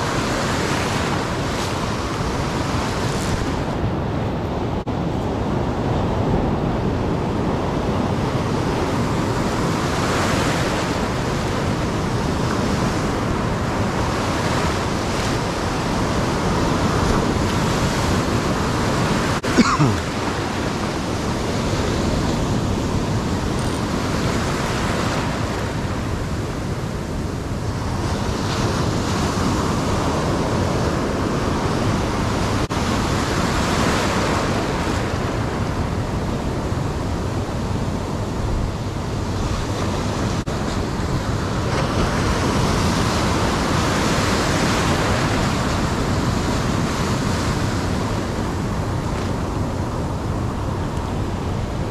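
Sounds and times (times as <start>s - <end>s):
ocean surf breaking: 0.0s - 51.9s.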